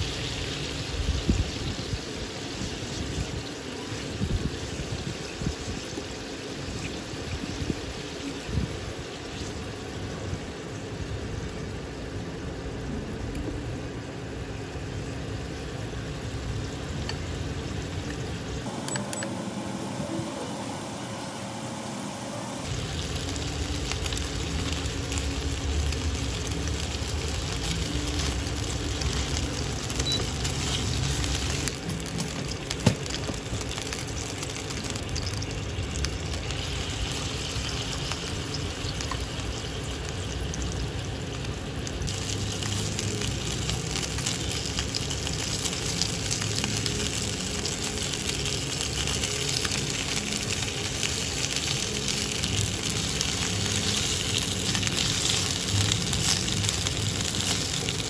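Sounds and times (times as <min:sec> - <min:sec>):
dumplings sizzling in oil: 0:00.0 - 0:19.8, 0:20.6 - 0:58.0.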